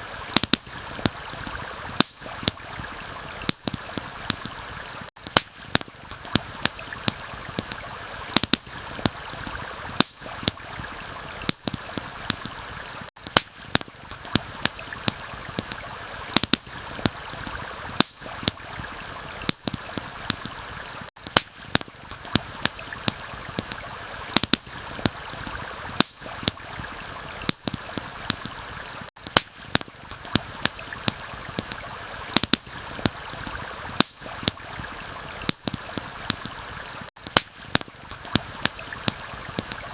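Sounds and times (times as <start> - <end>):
stream rushing: 0.0 - 5.1, 6.0 - 13.1, 14.1 - 21.1, 22.0 - 29.1, 30.0 - 37.1
campfire popping and crackling: 0.0 - 39.9.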